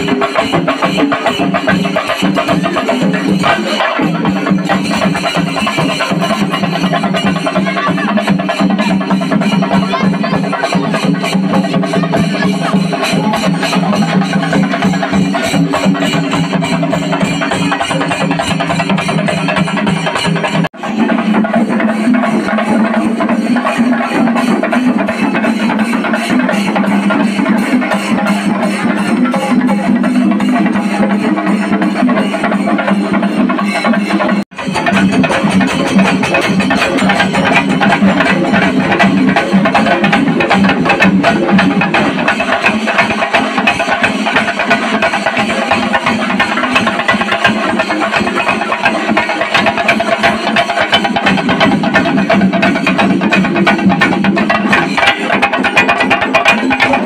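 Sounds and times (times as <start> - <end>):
busy percussion: 0.0 - 57.0
chenda drums beaten with sticks: 0.0 - 57.0
crowd noise: 0.0 - 57.0.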